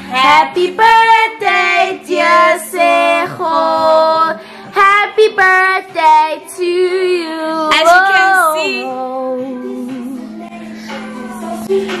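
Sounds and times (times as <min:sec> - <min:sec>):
song with high female voice: 0:00.0 - 0:12.0.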